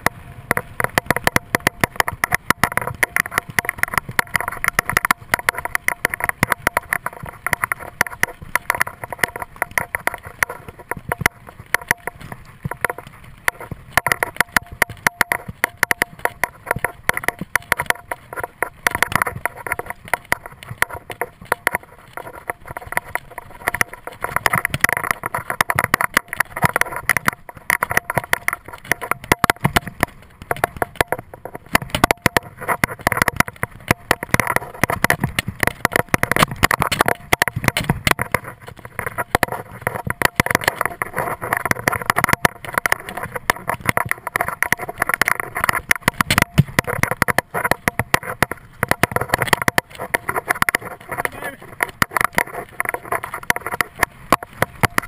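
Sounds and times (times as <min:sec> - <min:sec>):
bike rattling over rough ground: 0:00.0 - 0:55.0
tyres rolling on dirt: 0:00.0 - 0:55.0.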